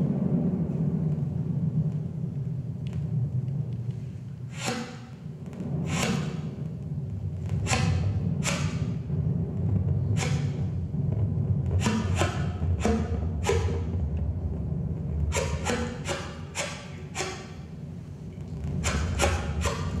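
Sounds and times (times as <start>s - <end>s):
low electronic drone: 0.0s - 20.0s.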